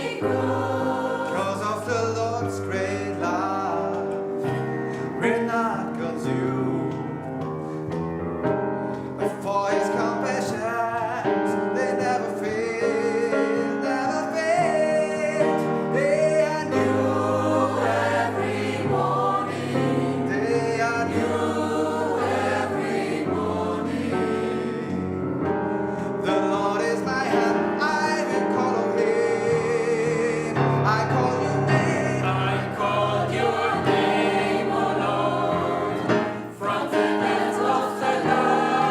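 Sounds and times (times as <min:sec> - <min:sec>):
gospel choir singing: 0:00.0 - 0:07.8, 0:09.0 - 0:38.9
instrumental accompaniment: 0:00.0 - 0:38.9.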